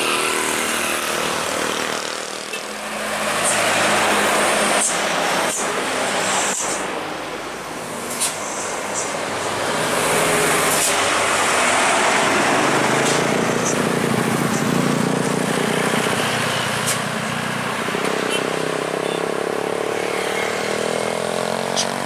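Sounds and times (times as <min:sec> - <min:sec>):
truck diesel engine passing: 0:00.0 - 0:22.0
tyre and road noise: 0:00.0 - 0:22.0.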